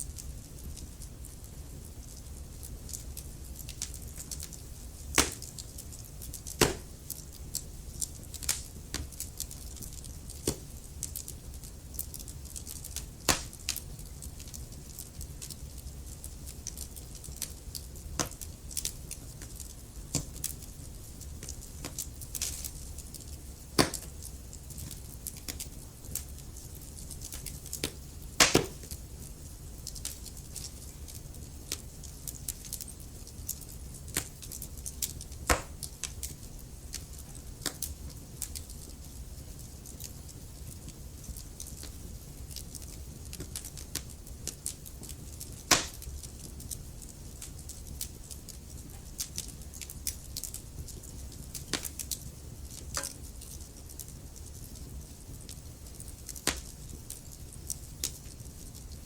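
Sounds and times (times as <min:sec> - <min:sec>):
burning wood popping: 0:00.0 - 0:59.0
low hiss of flames: 0:00.0 - 0:59.0
wood fire crackling: 0:00.0 - 0:59.0.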